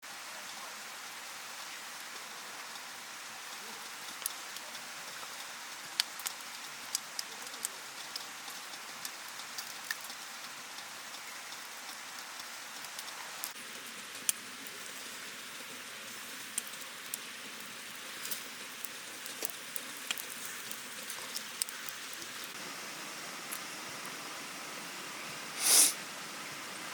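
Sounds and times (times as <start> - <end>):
campfire burning with crackles: 0.3 - 26.9.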